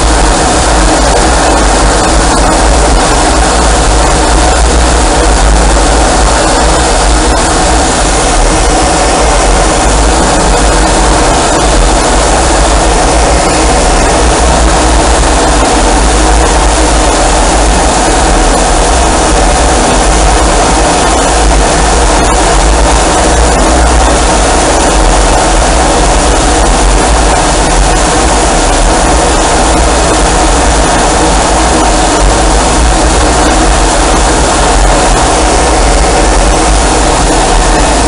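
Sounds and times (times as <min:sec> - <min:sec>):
jet engines roaring: 0:00.0 - 0:38.0.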